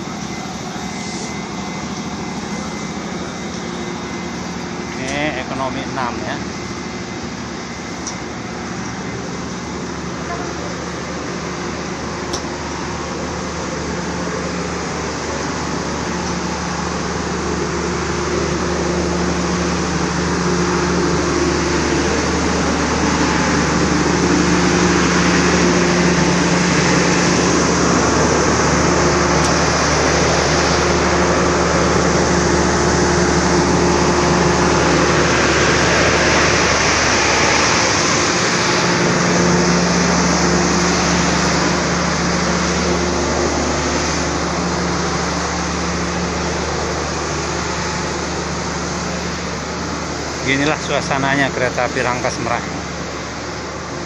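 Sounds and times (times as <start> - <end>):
low drone: 0.0 - 54.0
train machinery hum and whir: 0.0 - 54.0.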